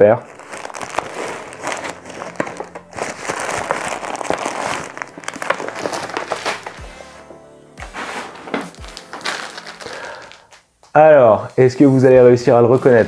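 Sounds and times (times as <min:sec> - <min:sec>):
paper bag rustling and crinkling: 0:00.0 - 0:07.2, 0:07.8 - 0:10.7, 0:11.4 - 0:13.0.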